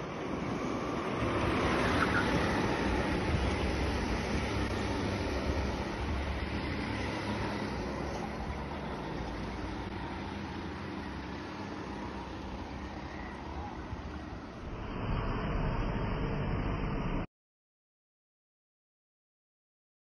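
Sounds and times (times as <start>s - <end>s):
go-kart engines passing: 0.0s - 17.2s.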